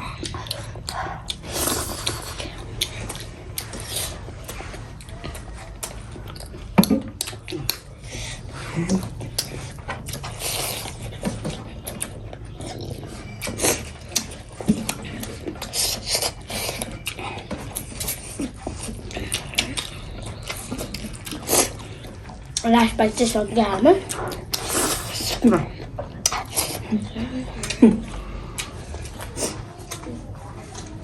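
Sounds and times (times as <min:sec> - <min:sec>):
people chewing and eating: 0:00.0 - 0:31.0.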